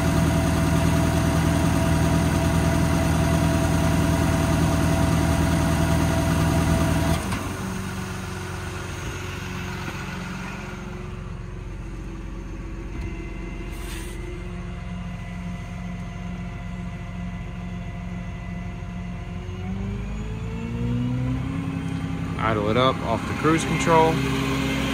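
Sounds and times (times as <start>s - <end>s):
air compressor running loudly: 0.0s - 20.1s
diesel engine idling: 0.0s - 20.8s, 21.4s - 24.9s.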